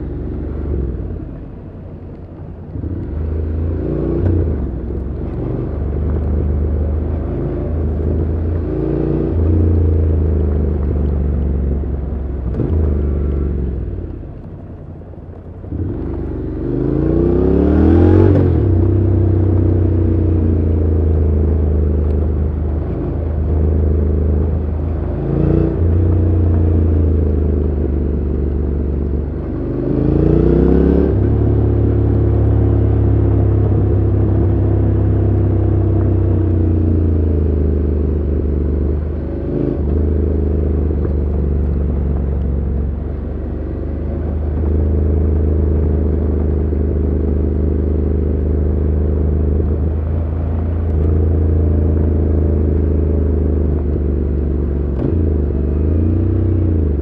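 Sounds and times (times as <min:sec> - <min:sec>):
motorcycle engine revving through gears: 0:00.0 - 0:14.6, 0:15.3 - 0:57.0.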